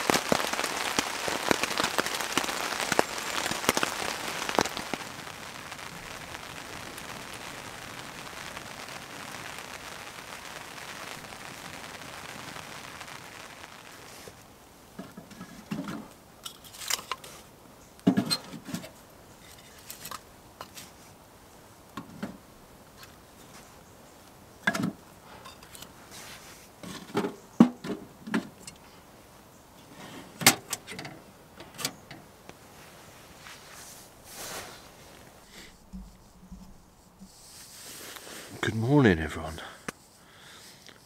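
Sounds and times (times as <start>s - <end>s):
kindling crackling and popping: 0.0s - 41.0s.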